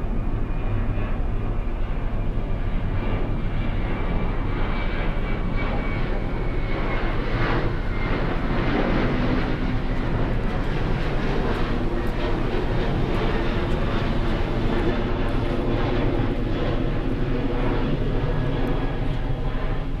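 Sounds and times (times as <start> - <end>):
jet airliner climbing: 0.4 - 20.0.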